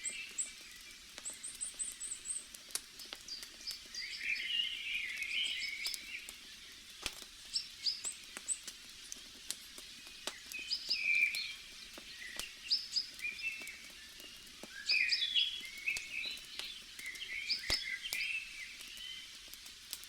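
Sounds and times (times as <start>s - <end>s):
songbirds chirping: 0.0s - 19.5s
campfire crackling: 0.0s - 20.0s.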